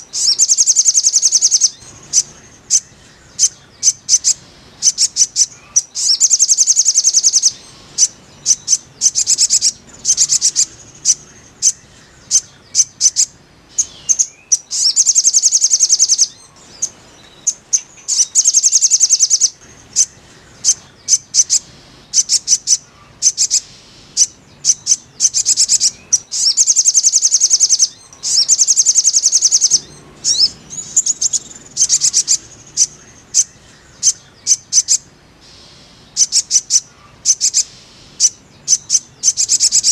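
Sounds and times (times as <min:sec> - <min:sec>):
bird trilling: 0:00.0 - 0:39.9.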